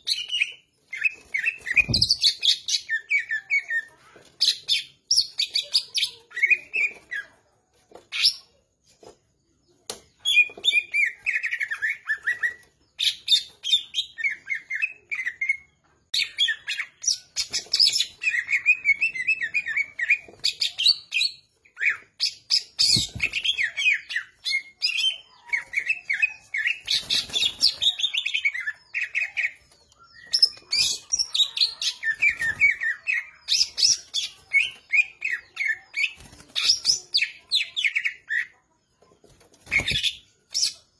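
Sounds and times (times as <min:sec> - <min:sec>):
bird singing chirps and trills: 0:00.0 - 0:08.7, 0:09.7 - 0:40.9.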